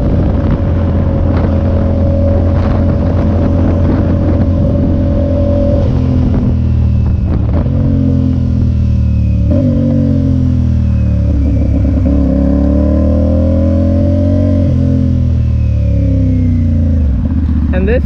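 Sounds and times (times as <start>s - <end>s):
motorcycle engine changing gears: 0.0s - 18.0s.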